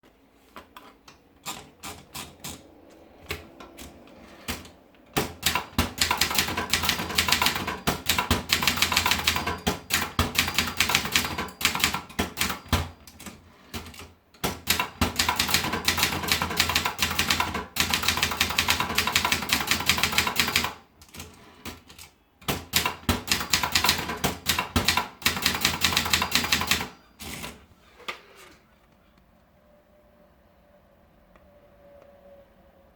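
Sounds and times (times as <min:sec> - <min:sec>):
typewriter typing: 0:01.1 - 0:27.6.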